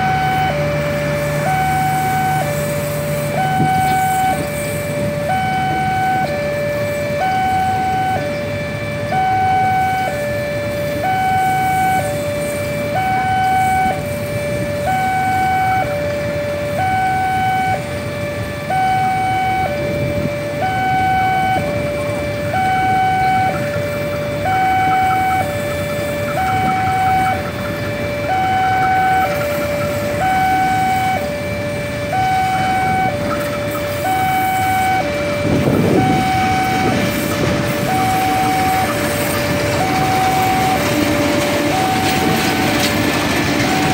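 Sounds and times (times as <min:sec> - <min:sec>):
rumble of train coaches: 0:00.0 - 0:43.9
two-tone crossing alarm: 0:00.0 - 0:43.9.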